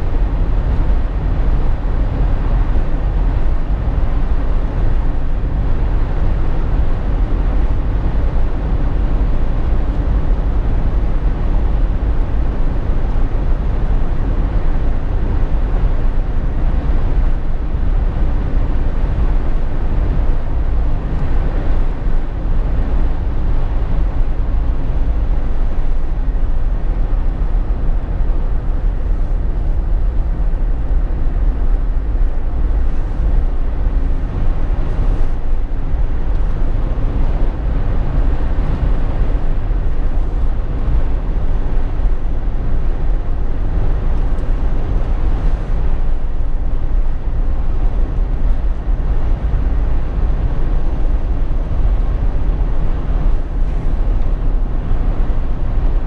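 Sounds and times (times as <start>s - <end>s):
low engine drone: 0.0s - 56.0s
tyre and road noise: 0.0s - 56.0s.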